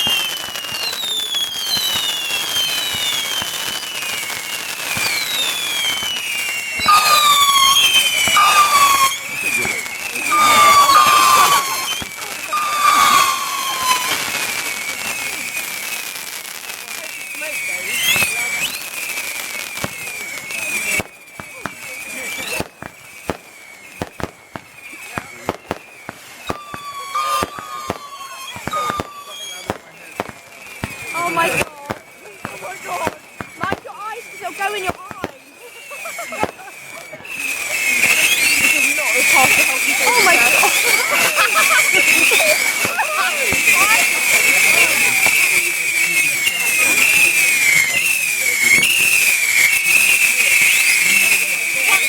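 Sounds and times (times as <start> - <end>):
fireworks crackling: 0.0 - 52.0
whistling fireworks: 0.0 - 52.0.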